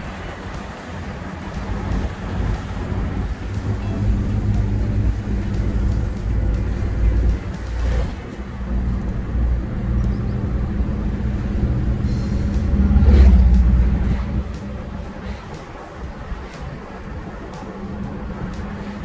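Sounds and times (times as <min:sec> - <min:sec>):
vehicle engine and road hum: 0:00.0 - 0:19.0.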